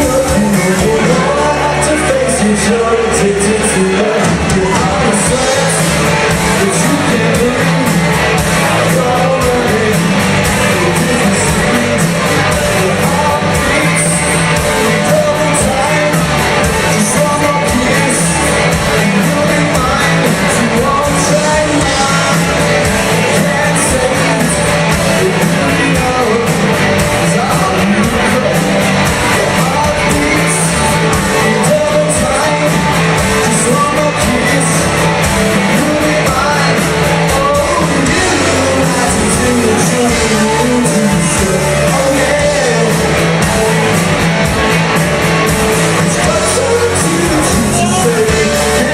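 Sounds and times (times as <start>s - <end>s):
guitar: 0.0s - 48.9s
person singing: 0.0s - 48.9s
drum beat: 2.6s - 48.9s.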